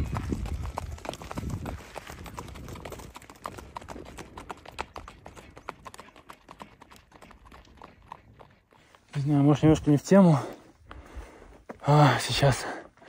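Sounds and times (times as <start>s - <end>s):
horse hooves on gravel: 0.0s - 11.8s.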